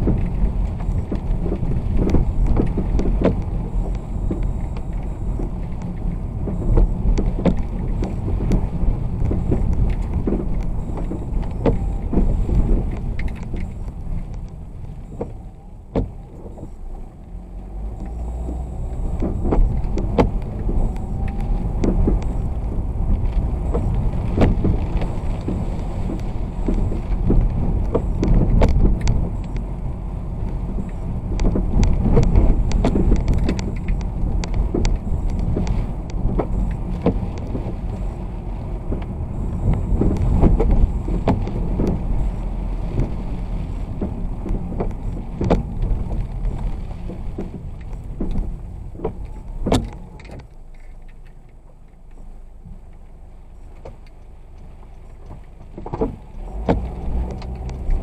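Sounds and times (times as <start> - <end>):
vehicle driving on wet road: 0.0 - 58.0.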